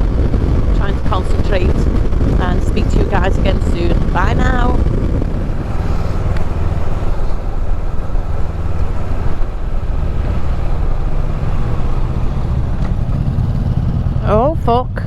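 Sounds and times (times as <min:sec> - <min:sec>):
rushing air: 0:00.0 - 0:14.2
motorcycle engine rumble: 0:00.0 - 0:15.0.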